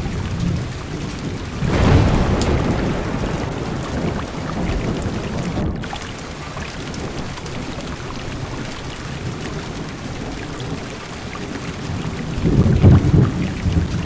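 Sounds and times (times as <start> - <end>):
heavy rain on car windows: 0.0 - 14.0
low rumble of thunder: 0.0 - 14.0.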